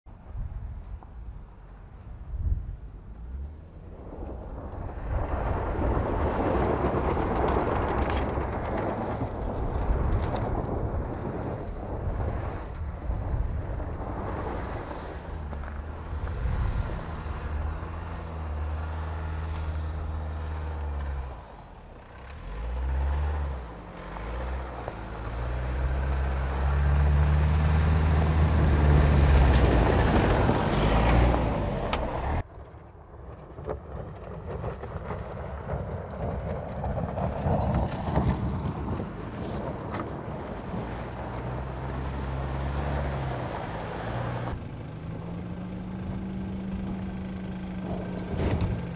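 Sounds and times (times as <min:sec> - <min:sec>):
tyres on loose dirt: 0:00.1 - 0:48.9.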